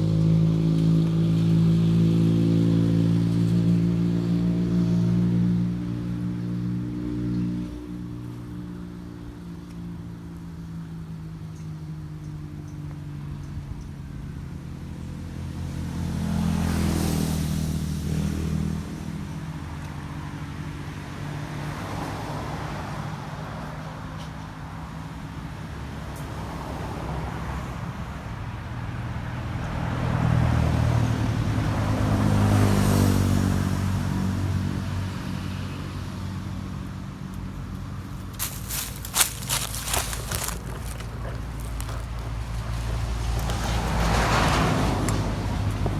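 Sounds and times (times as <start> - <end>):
vehicles passing by: 0.0 - 45.9.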